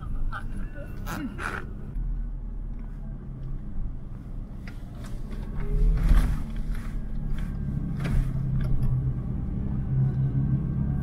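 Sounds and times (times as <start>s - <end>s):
low engine rumble with hum: 0.0s - 11.0s.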